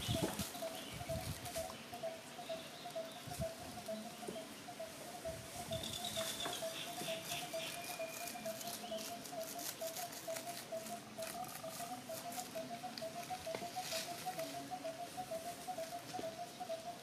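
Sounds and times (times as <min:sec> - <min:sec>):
dry leaves rustling: 0:00.0 - 0:16.6
steady wavering tone: 0:00.0 - 0:17.0.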